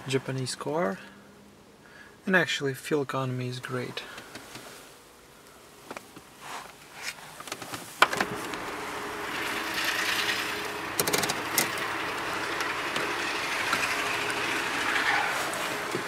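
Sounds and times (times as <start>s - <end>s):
ventilation fan blowing air: 0.0s - 16.0s.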